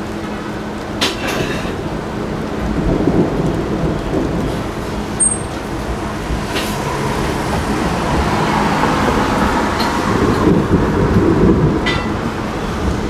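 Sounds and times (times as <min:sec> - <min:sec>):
low rumble of thunder: 0:00.0 - 0:13.0
rain falling: 0:00.0 - 0:13.0.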